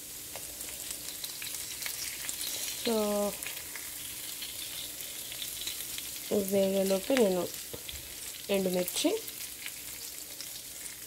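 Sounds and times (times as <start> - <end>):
hot oil sizzling with crackles: 0.0 - 11.0.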